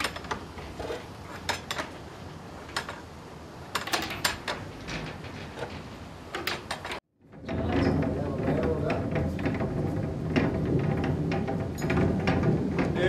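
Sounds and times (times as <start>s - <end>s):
wooden lever and chain knocking: 0.0s - 2.0s, 2.6s - 3.1s, 3.7s - 13.0s.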